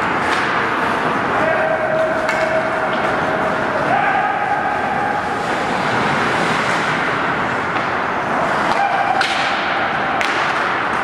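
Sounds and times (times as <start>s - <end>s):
hockey sticks and puck clacking: 0.0s - 11.0s
skate and rink noise: 0.0s - 11.0s.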